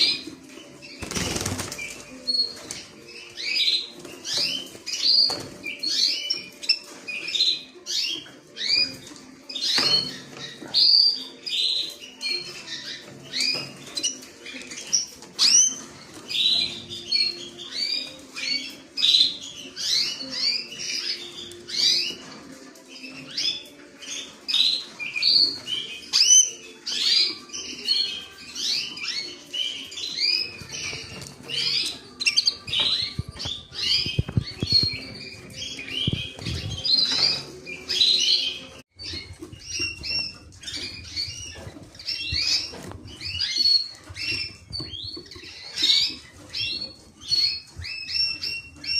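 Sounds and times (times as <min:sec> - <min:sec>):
canary chirping: 0:00.0 - 0:48.9.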